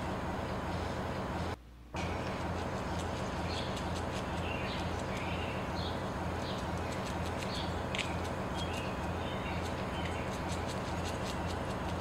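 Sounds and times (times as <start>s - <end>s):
steady outdoor rush: 0.0s - 12.0s
small birds chirping: 2.0s - 12.0s.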